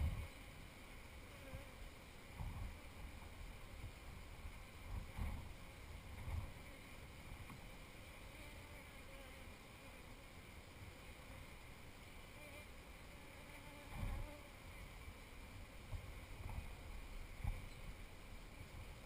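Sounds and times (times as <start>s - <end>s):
honeybees humming: 0.0s - 19.0s.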